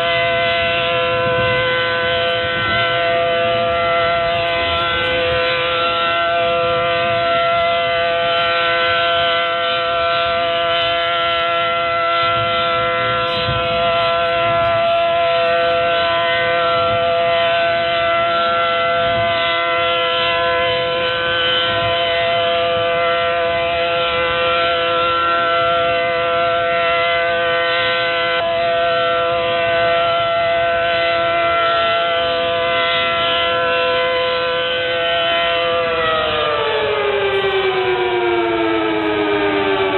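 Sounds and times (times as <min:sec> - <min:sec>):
low road rumble: 0:00.0 - 0:39.9
warning siren steady tone: 0:00.0 - 0:39.9.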